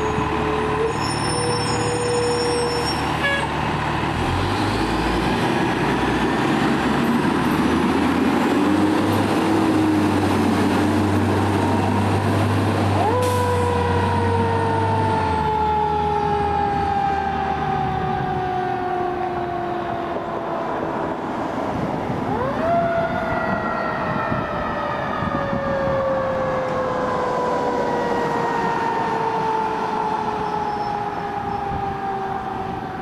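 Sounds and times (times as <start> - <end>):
fire truck siren wailing: 0.0 - 33.0
truck engine rumble: 0.0 - 33.0.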